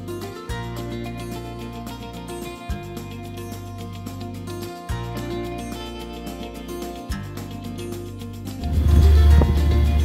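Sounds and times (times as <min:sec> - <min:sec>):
music with sustained bass notes: 0:00.0 - 0:10.0.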